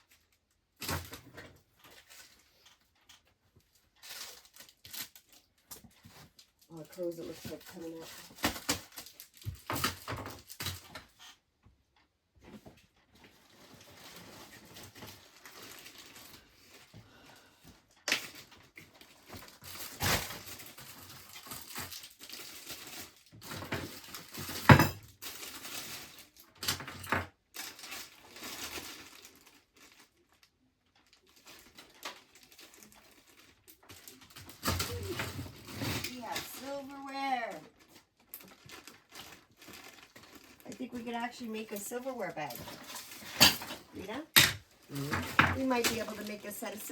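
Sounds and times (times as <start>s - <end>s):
rustling of items: 0.0s - 46.9s.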